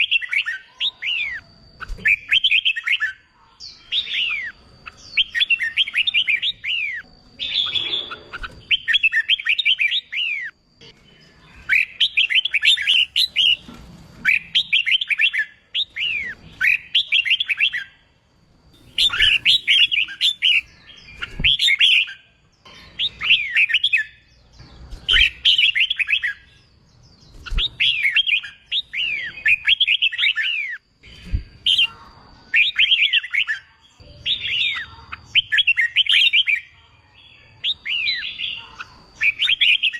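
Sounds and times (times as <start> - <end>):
bulbul singing: 2.1 - 13.7, 14.3 - 39.9.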